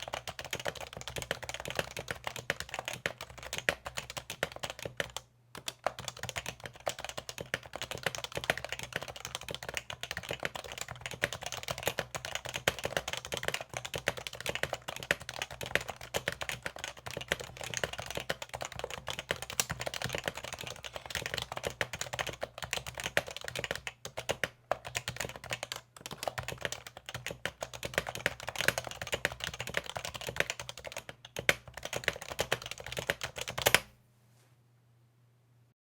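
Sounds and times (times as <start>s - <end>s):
fast keyboard typing: 0.0s - 33.9s.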